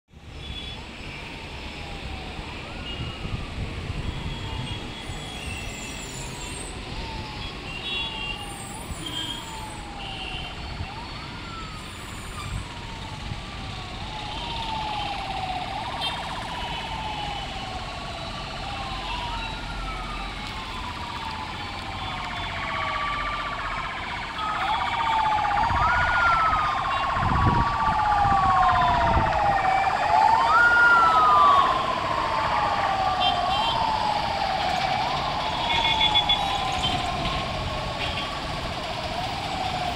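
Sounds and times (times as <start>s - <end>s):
ambulance siren wailing: 0.5s - 39.9s.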